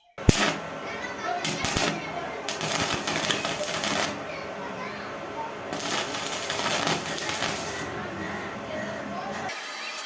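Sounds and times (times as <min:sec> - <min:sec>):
welding arc crackling and hissing: 0:00.0 - 0:09.5.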